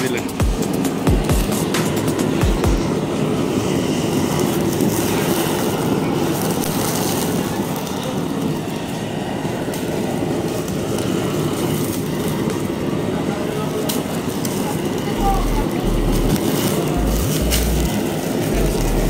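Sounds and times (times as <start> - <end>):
gas blowtorch burning: 0.0 - 19.0.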